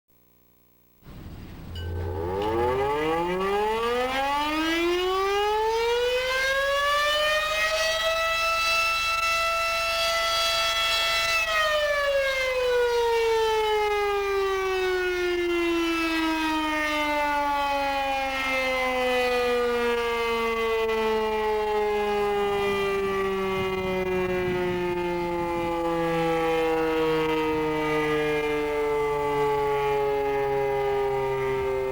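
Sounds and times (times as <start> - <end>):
siren wailing: 1.1 - 31.9.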